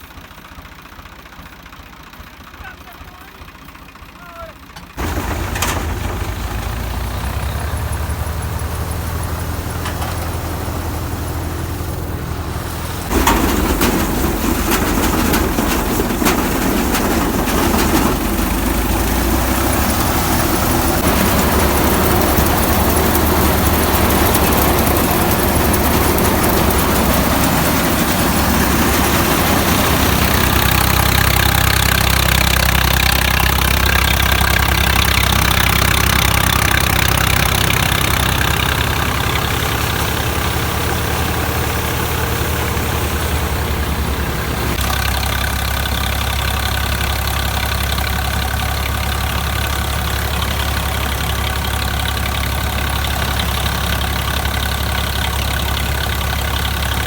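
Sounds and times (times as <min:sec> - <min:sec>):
farm machinery engine humming: 0:00.0 - 0:57.0.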